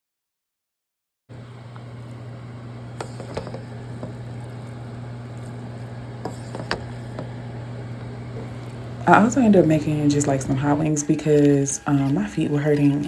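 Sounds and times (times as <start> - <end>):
low hum with hiss: 1.3 - 13.0.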